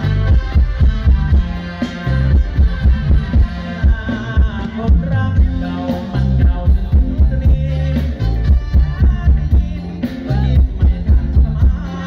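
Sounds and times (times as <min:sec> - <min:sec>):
bass line: 0:00.0 - 0:12.0
heavy kick drum beat: 0:00.0 - 0:12.0
live band music: 0:00.0 - 0:12.0
person singing: 0:00.0 - 0:12.0.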